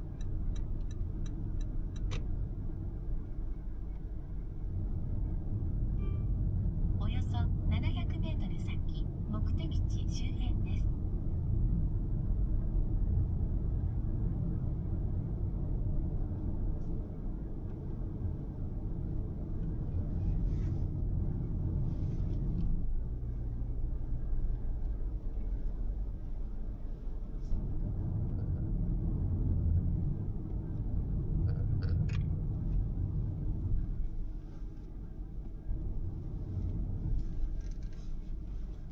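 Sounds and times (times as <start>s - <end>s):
car cabin road and engine rumble: 0.0s - 38.9s.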